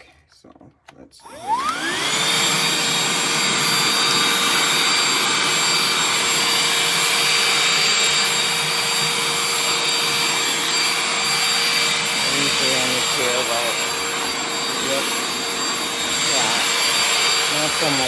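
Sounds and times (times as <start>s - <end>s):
handheld vacuum running: 1.2s - 18.0s.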